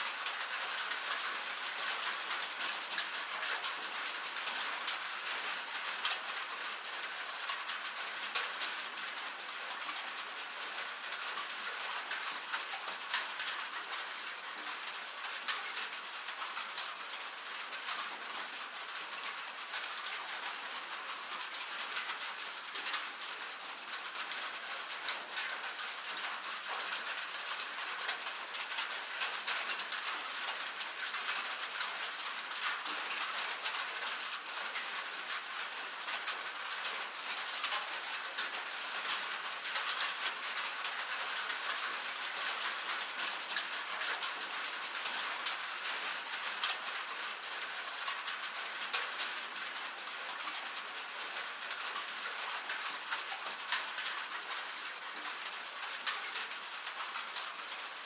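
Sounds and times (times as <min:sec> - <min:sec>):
rain on metal roof: 0:00.0 - 0:58.0.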